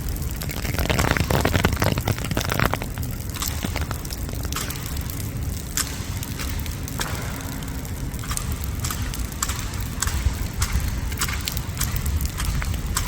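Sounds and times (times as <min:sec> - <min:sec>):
heavy rain rumble: 0:00.0 - 0:13.0
raindrops tapping: 0:00.0 - 0:13.0.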